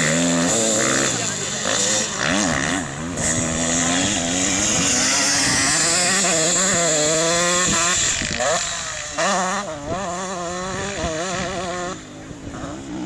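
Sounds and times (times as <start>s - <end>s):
off-road motorcycle engines revving: 0.0s - 13.0s.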